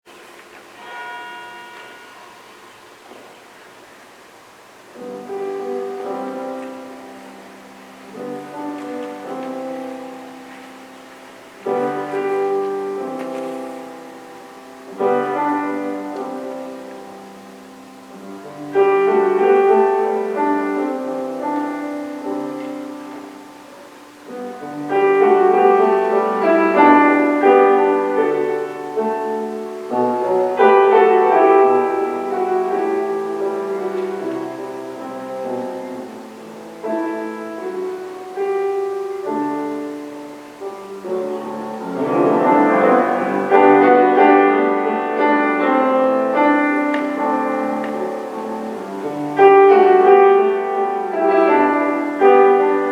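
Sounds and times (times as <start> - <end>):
slow chordal piano music: 0.1 - 52.9.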